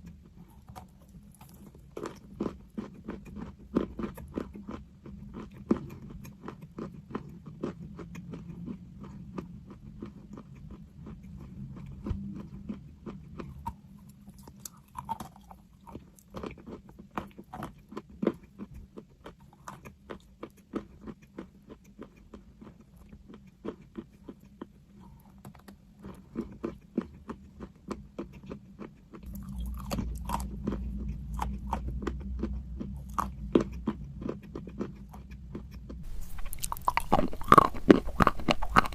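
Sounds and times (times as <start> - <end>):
crunching and chewing chalk: 0.0 - 38.9.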